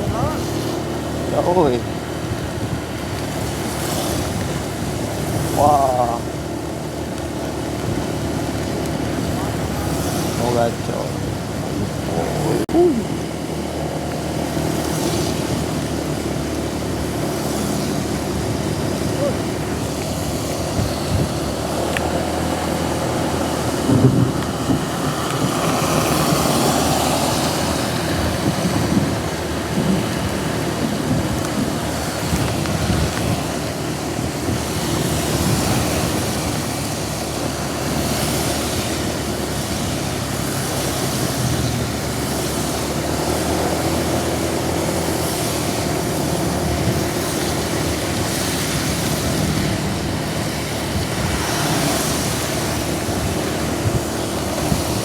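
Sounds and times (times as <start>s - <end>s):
heavy rain: 0.0s - 55.0s
vehicles hissing on wet road: 0.0s - 55.0s.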